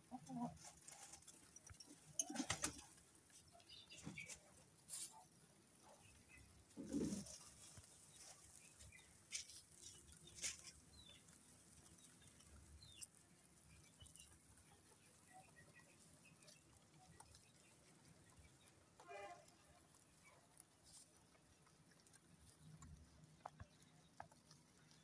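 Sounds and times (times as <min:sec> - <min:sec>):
rabbits nibbling greens: 0:00.0 - 0:25.0.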